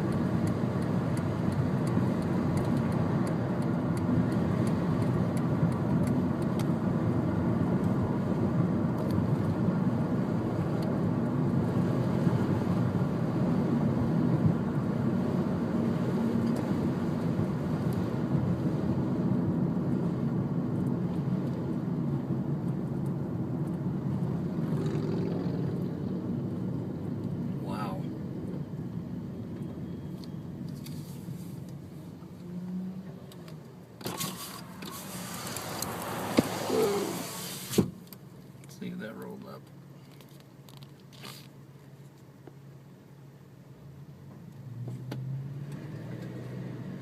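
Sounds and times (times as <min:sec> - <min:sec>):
car interior road and engine drone: 0:00.0 - 0:47.0.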